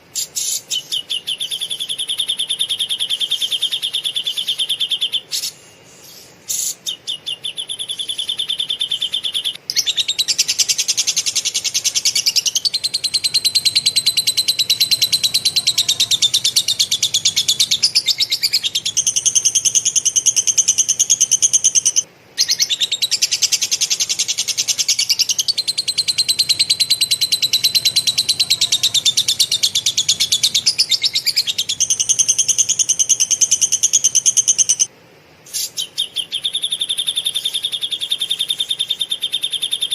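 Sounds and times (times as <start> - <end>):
bird singing a fast chattering trill: 0.1 - 34.9, 35.5 - 39.9.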